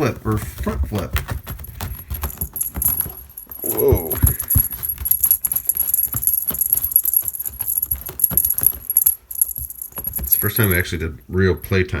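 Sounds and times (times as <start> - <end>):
cat toy jingling and rattling: 0.0 - 12.0.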